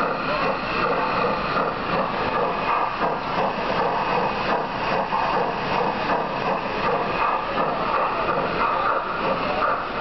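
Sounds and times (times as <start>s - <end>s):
model locomotive motor whirring: 0.0s - 10.0s.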